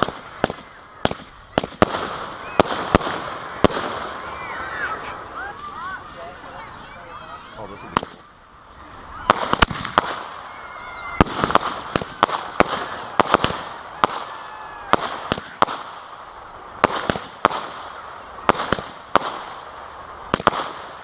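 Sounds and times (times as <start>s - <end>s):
continuous hiss: 0.0s - 21.0s
fireworks bangs: 0.0s - 21.0s.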